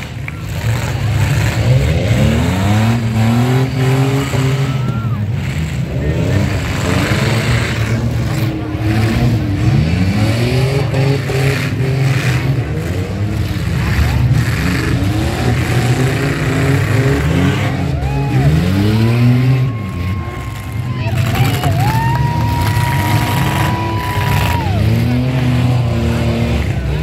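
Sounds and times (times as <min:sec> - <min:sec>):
truck engines revving: 0:00.0 - 0:27.0.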